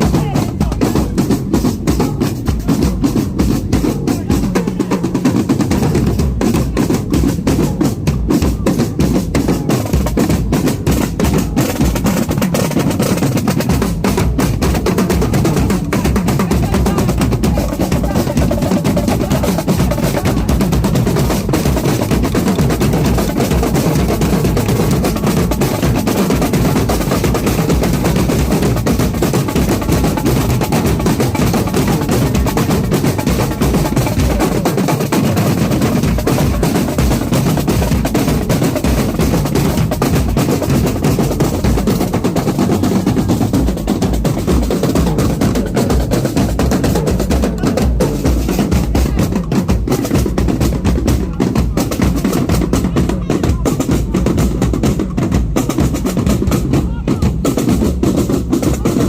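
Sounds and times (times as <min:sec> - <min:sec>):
bass drum beats: 0:00.0 - 0:59.0
snare drums rolling: 0:00.0 - 0:59.0.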